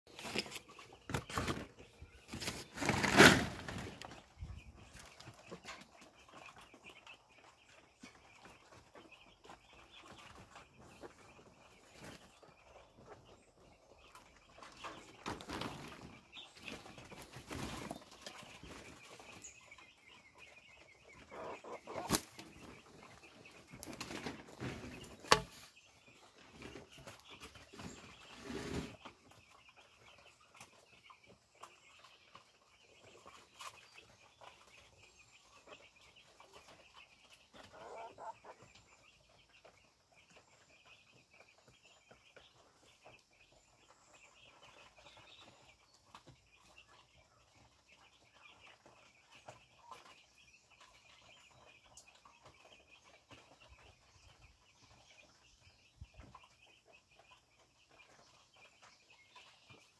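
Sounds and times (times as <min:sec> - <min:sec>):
chickens clucking: 0:00.1 - 0:59.9.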